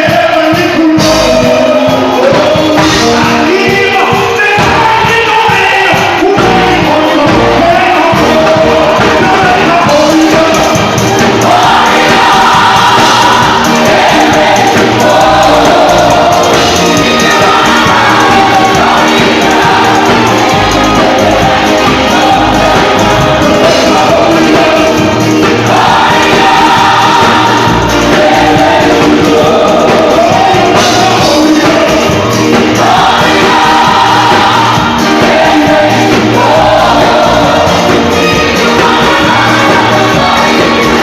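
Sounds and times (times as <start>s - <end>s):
band with steady bass beat: 0.0s - 41.0s
several voices singing: 0.0s - 41.0s.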